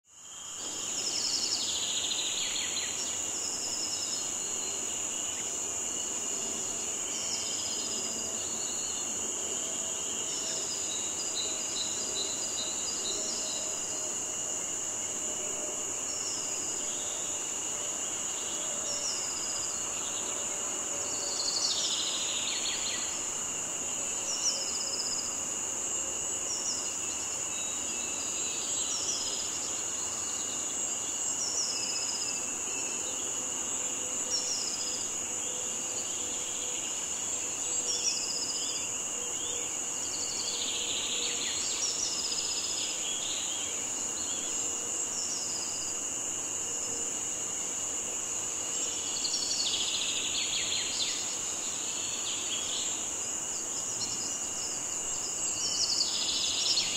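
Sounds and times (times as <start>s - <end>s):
insects droning high: 0.1s - 56.9s.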